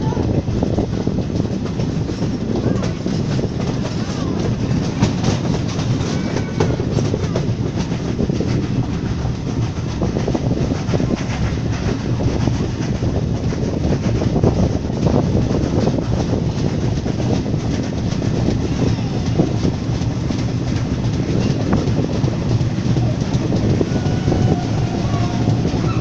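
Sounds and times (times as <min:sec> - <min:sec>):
train wheels rumbling: 0:00.0 - 0:26.0
wheels clicking over rail joints: 0:00.0 - 0:26.0.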